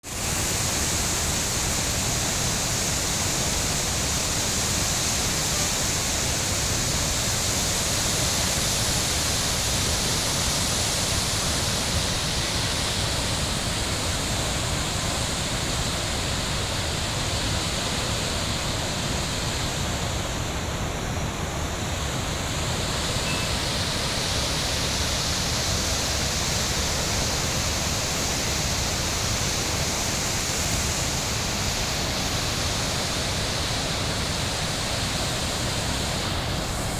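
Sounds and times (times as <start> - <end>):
water rushing through dam gates: 0.1 - 36.9.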